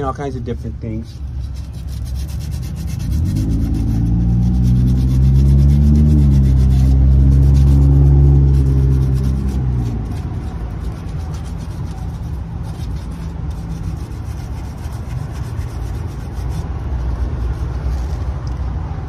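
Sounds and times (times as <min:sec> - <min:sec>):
sandpaper rubbing on paint: 0:00.0 - 0:18.5
low traffic rumble: 0:00.0 - 0:19.0
vehicle engine droning: 0:01.1 - 0:19.0.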